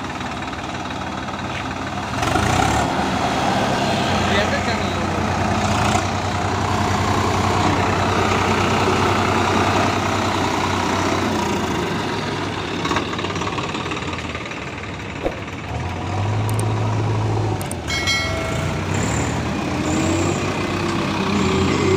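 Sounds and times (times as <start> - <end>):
diesel engines running: 0.0 - 21.9.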